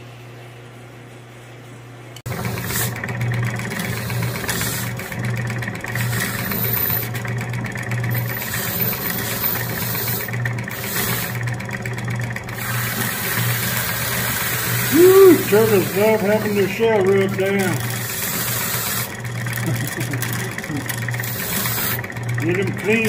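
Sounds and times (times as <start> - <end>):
bench grinder humming: 2.2 - 23.0
wire wheel scratching metal: 2.3 - 23.0.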